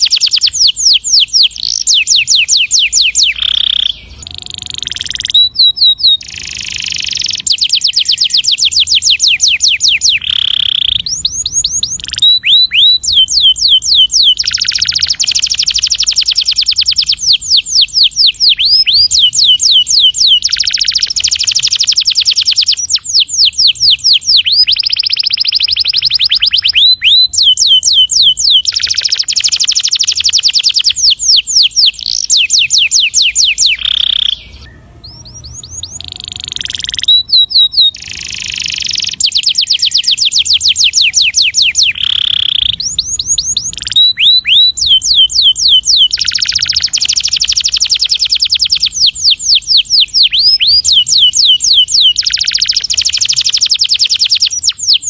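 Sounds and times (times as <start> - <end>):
canary singing with trills: 0.0 - 55.0.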